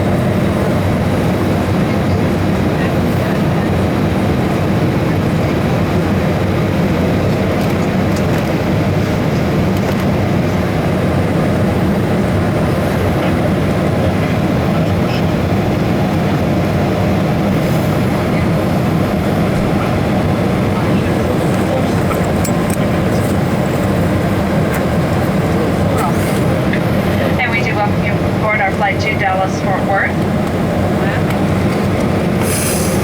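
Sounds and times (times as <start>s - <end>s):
cabin air conditioning roar: 0.0s - 33.0s.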